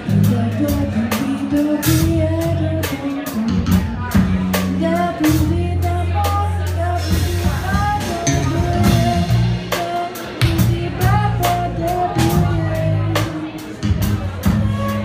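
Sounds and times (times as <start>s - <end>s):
melodic lead line: 0.0s - 14.6s
bass notes: 0.0s - 15.0s
drum and cymbal hits: 0.0s - 15.0s.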